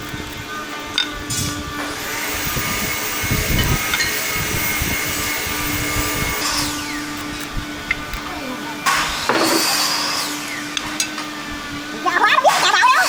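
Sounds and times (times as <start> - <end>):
power tool motor whining: 0.0 - 13.0.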